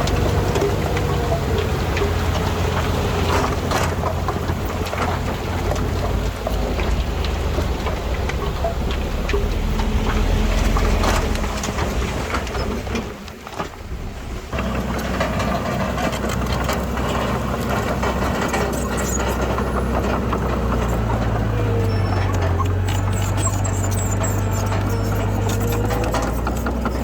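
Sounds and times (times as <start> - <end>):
diesel machinery engine: 0.0 - 27.0.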